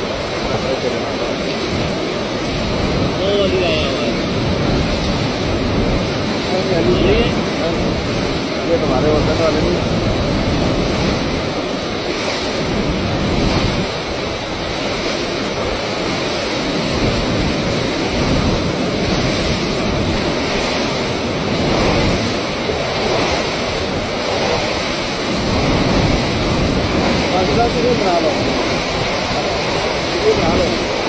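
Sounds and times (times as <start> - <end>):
water rushing through flood gate: 0.0 - 31.0.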